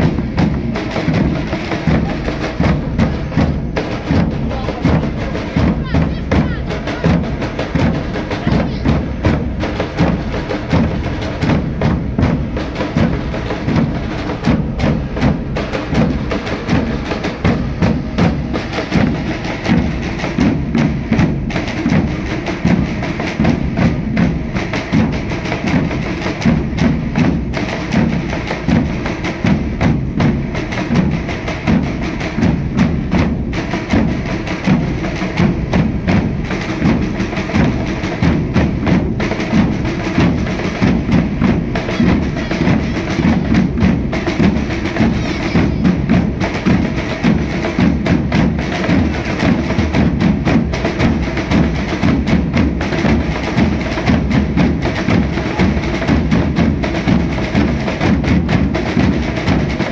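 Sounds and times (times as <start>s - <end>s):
bass drum: 0.0s - 59.9s
side drums rapid strokes: 0.0s - 59.9s.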